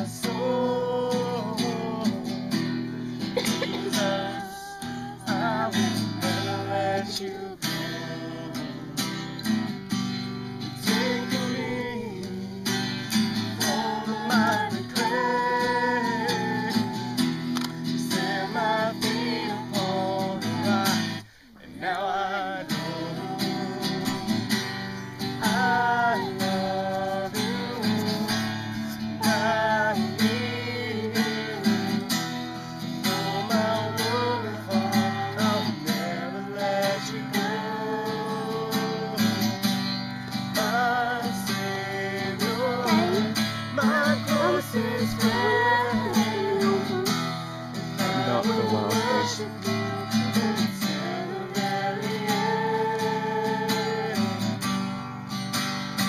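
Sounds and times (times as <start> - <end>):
person singing worship song: 0.0 - 9.4, 10.3 - 54.6
acoustic guitar strummed: 0.0 - 56.0.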